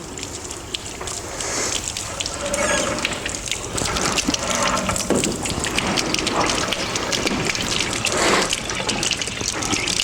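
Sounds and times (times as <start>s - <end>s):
water gushing through plumbing: 0.0s - 10.0s.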